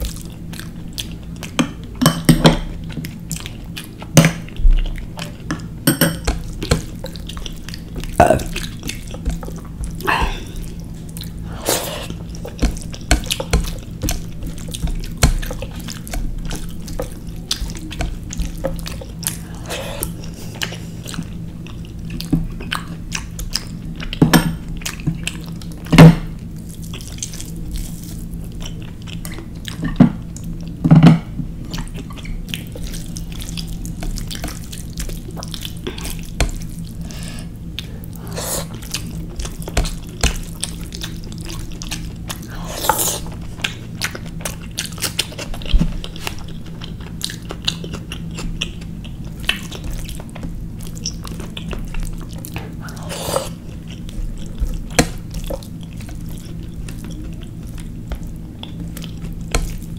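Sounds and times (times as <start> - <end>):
chewing and mouth sounds: 0.0 - 59.9
steady low hum: 0.0 - 59.9
fingers mixing wet food: 2.8 - 24.2, 31.6 - 59.9.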